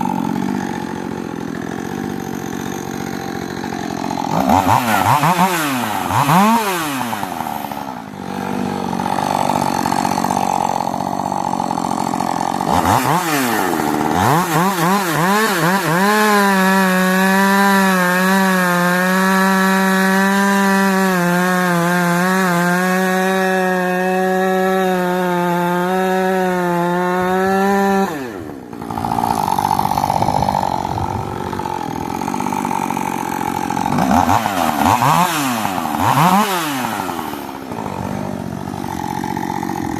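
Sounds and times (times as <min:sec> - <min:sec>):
chainsaw revving and cutting wood: 0:00.0 - 0:39.9.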